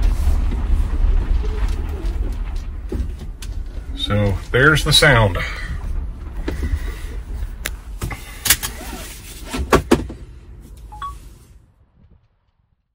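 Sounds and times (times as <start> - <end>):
low drivetrain rumble: 0.0 - 11.0.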